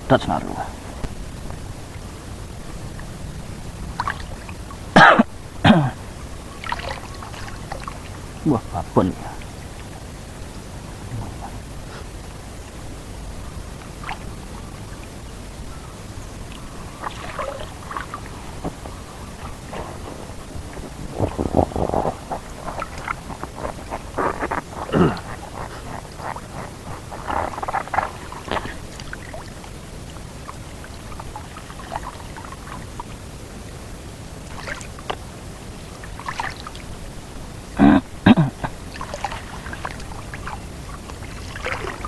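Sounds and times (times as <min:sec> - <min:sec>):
water splashing and trickling: 0:00.0 - 0:37.8, 0:38.6 - 0:42.0.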